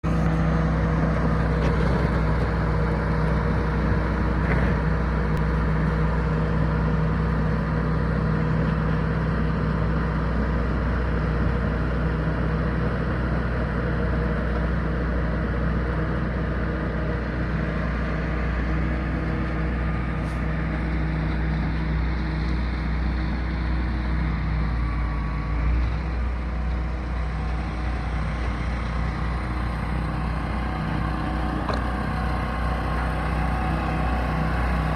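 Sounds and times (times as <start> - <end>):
truck engine running: 0.0 - 34.9.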